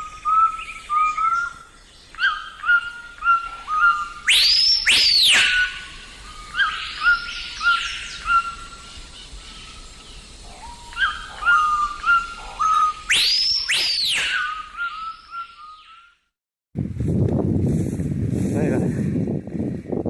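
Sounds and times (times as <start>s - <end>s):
whistled bird calls: 0.0s - 16.2s.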